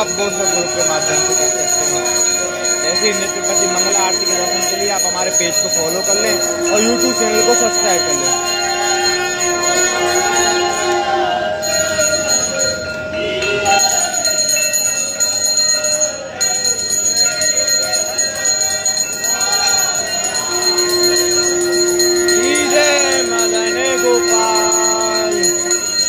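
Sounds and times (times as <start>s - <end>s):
devotional singing: 0.0s - 16.5s, 18.8s - 26.0s
temple bells ringing: 0.0s - 26.0s.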